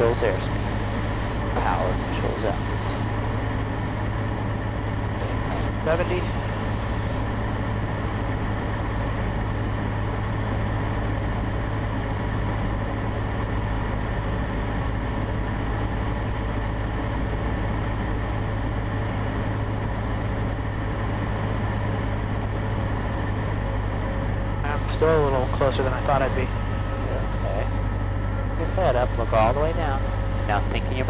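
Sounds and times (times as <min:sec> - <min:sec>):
light aircraft engine droning in cabin: 0:00.0 - 0:31.0.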